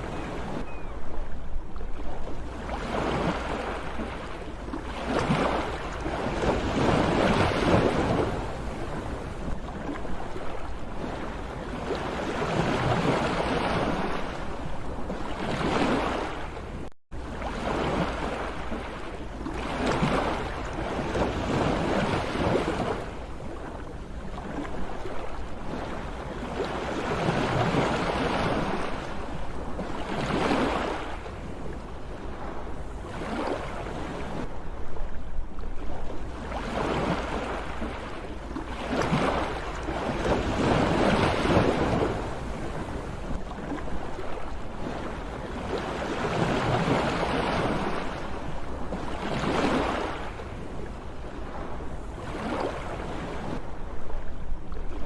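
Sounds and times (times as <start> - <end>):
waves breaking and washing in: 0.0 - 55.0.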